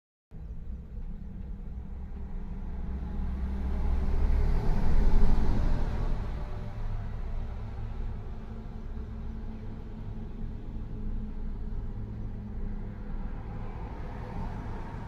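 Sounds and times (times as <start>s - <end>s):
vehicle engine and tyre rumble: 0.3s - 15.0s.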